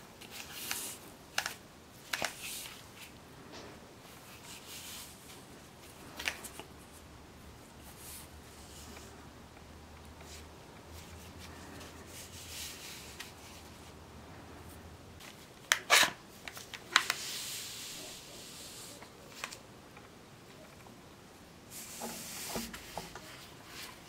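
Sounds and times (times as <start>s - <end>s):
soft rubbing and rustling: 0.1s - 9.3s, 10.1s - 19.7s, 21.7s - 24.0s.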